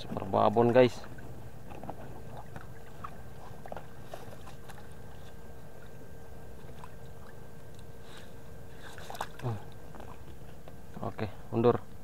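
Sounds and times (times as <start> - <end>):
splashes and clicks in water: 0.0 - 7.9, 8.8 - 11.2
thin steady hum: 0.0 - 12.0.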